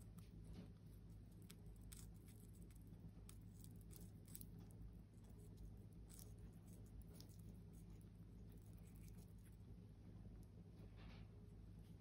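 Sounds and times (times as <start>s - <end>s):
parrot beak crunching pea pod: 0.0s - 9.7s
low steady hum: 0.0s - 12.0s.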